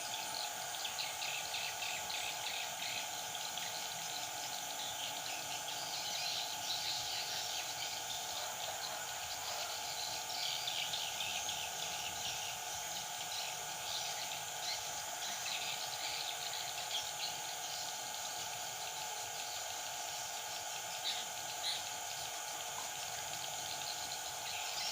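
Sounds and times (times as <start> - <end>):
insects droning: 0.0 - 24.9.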